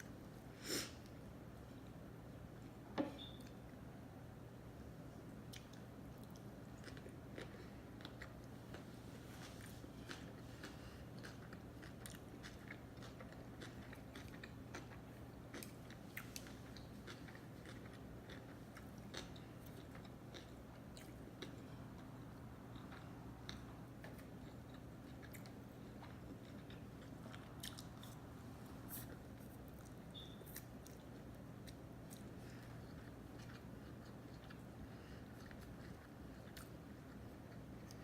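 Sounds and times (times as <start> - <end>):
low steady hum: 0.0 - 38.0
chewing and biting food: 5.5 - 28.3, 28.9 - 38.0.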